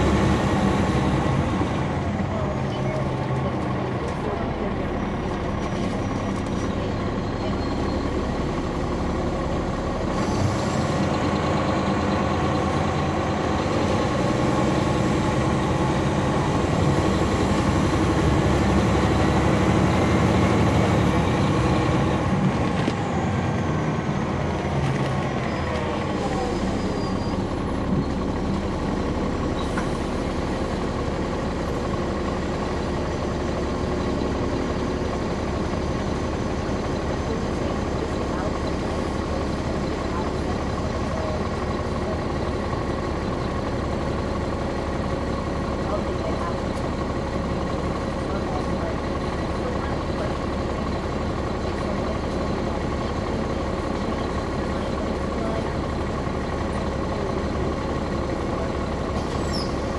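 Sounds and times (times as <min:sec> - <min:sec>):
bus engine and transmission whine: 0:00.0 - 0:59.9.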